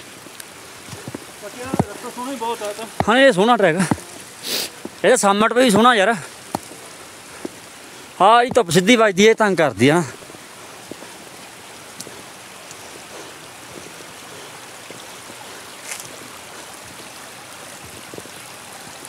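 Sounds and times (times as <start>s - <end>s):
footsteps on wet rocks: 0.0s - 19.0s
stream trickling over stones: 0.0s - 19.0s.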